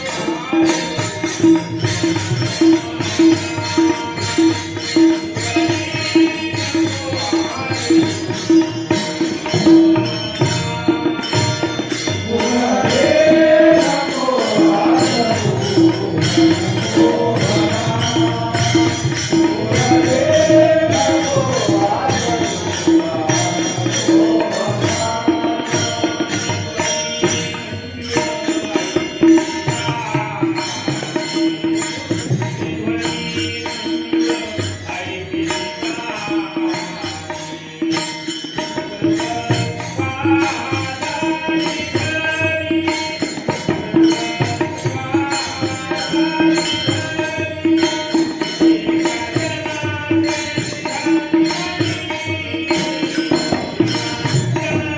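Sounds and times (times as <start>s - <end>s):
hand percussion and jingles: 0.0s - 54.9s.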